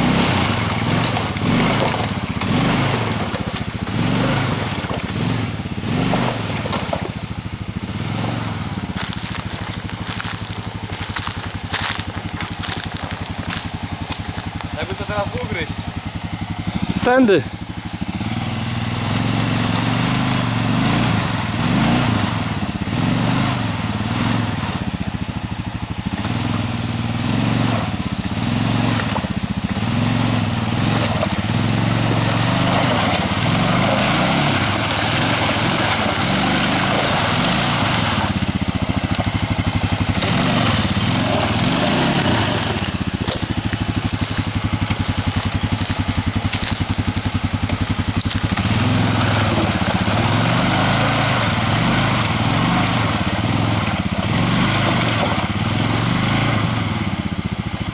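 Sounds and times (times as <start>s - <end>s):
atv engine revving: 0.0s - 57.9s.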